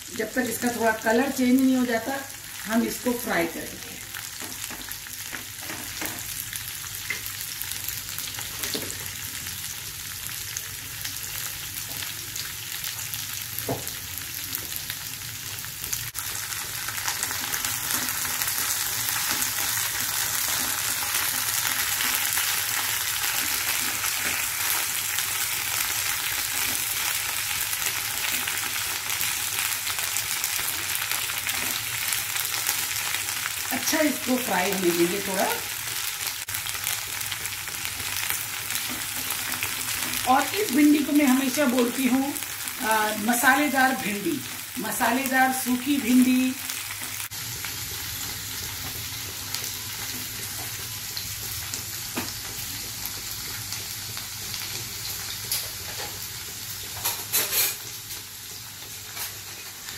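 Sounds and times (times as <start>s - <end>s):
okra sizzling in oil: 0.0s - 59.9s.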